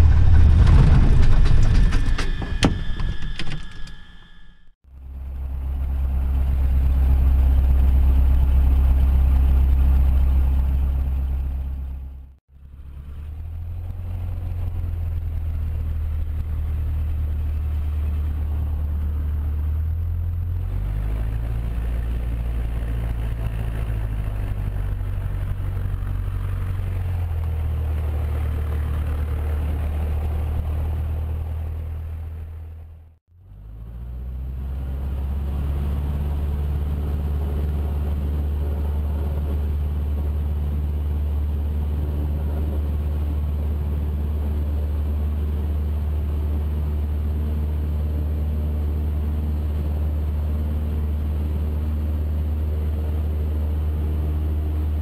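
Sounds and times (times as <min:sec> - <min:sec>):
light aircraft engine running: 0:00.0 - 0:55.0.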